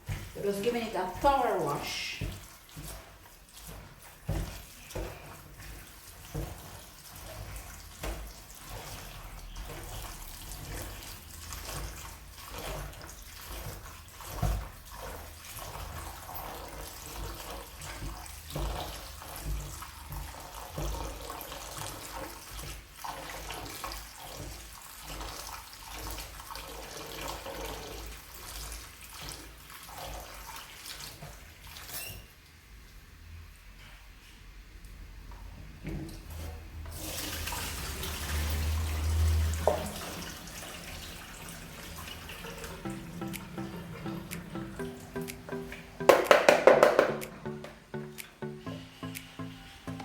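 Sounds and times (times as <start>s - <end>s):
tap water running into sink: 0.0s - 31.9s, 35.8s - 50.0s
water splashing and sloshing: 0.0s - 32.0s, 35.7s - 50.0s.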